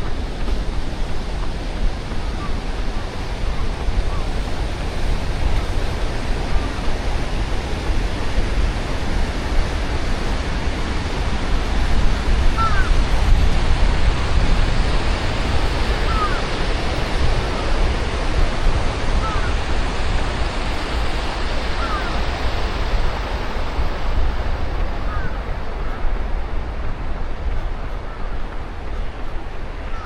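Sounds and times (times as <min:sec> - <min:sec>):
wind roaring over microphone: 0:00.0 - 0:30.0.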